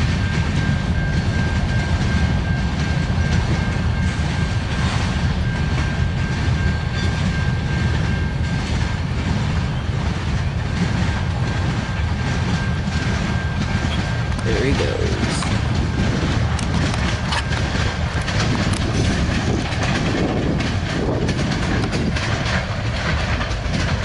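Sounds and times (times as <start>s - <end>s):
freight train rumbling past: 0.0s - 24.0s
wheels clattering on rails: 0.0s - 24.0s.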